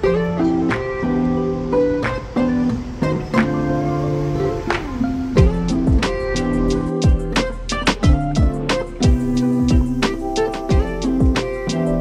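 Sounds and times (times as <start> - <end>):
guitar music with beat: 0.0 - 12.0.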